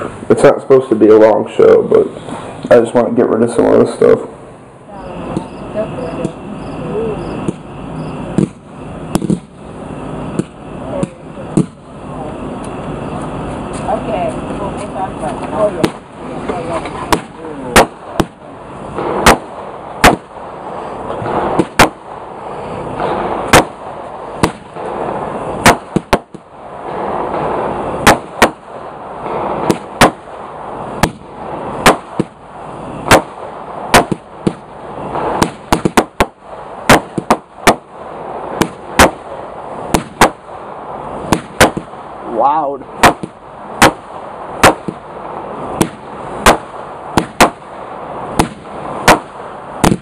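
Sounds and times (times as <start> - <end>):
firework hiss: 0.0 - 50.0
fireworks banging: 0.0 - 50.0.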